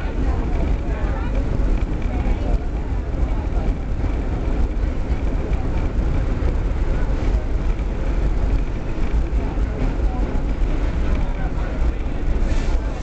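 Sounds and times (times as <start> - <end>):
subway train wheels rumbling on rails: 0.0 - 13.0.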